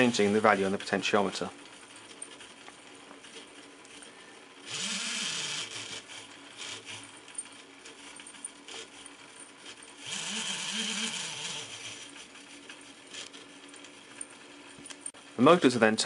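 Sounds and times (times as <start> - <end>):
small gear motors whirring: 0.0 - 15.1.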